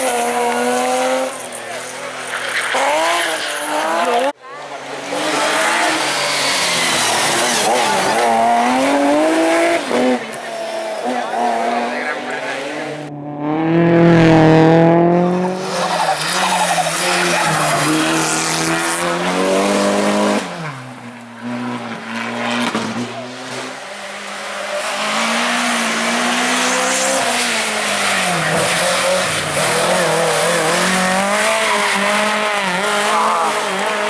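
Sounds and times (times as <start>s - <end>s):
car engine revving hard: 5.0s - 34.0s.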